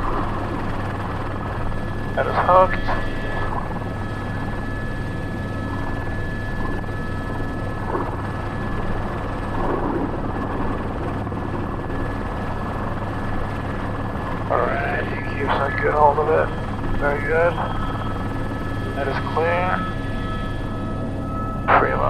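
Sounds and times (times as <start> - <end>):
helicopter rotor and turbine: 0.0 - 22.0
thin high turbine whine: 0.0 - 22.0.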